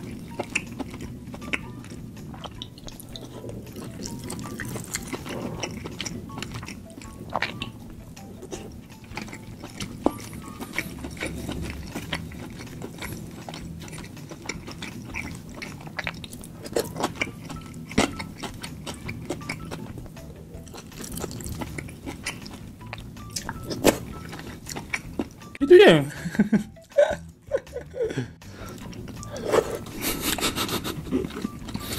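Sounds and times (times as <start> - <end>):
person chewing: 0.0 - 25.6, 28.1 - 31.9
soft background music: 0.0 - 31.9.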